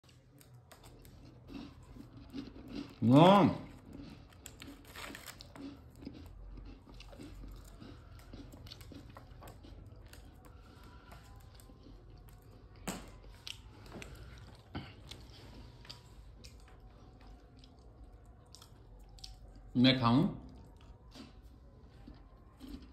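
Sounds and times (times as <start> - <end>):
parakeet crunching a cookie: 0.0 - 19.8.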